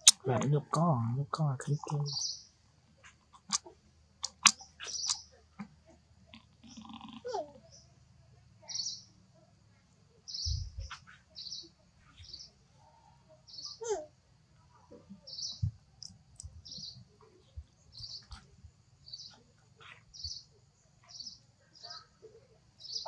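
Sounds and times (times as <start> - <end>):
birds chirping: 0.0 - 5.7, 6.3 - 7.9, 8.6 - 9.2, 10.2 - 14.0, 14.7 - 23.0.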